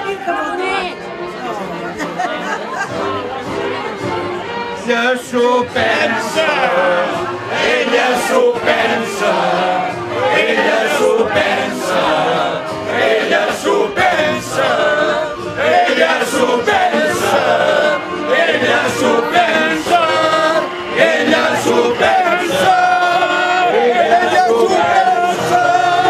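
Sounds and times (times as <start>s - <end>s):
men singing in chorus: 4.8s - 26.0s.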